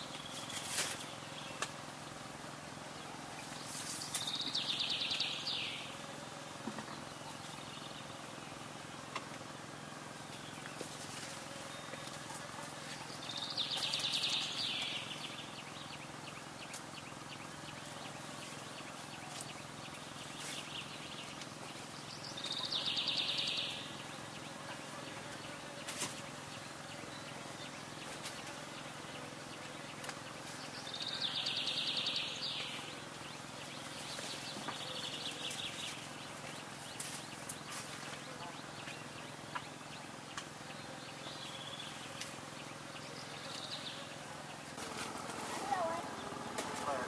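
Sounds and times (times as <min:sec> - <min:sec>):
outdoor background noise: 0:00.0 - 0:47.0.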